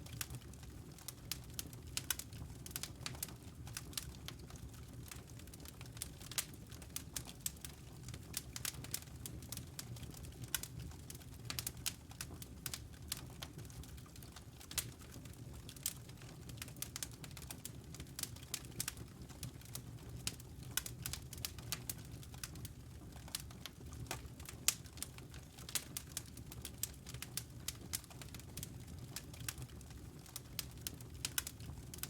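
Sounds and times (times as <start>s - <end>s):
logs crackling and popping: 0.1s - 32.0s.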